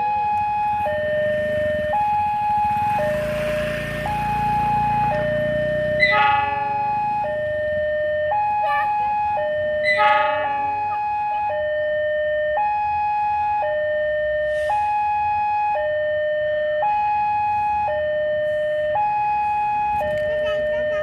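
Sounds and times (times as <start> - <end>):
electronic two-tone warning alarm: 0.0 - 21.0.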